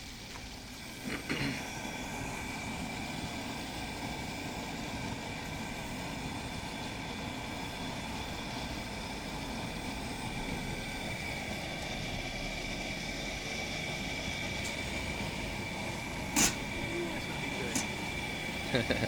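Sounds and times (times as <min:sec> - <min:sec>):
gas burner rushing: 0:00.0 - 0:19.0
turkey frying in hot oil: 0:00.0 - 0:19.0.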